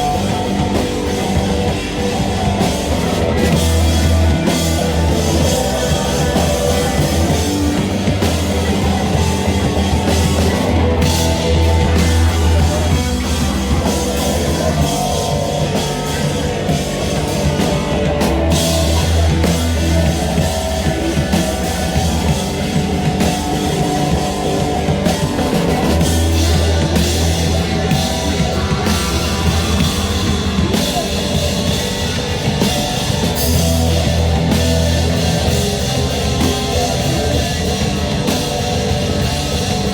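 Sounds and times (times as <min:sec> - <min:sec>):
heavy low bass: 0:00.0 - 0:39.9
heavy rock band playing: 0:00.0 - 0:39.9.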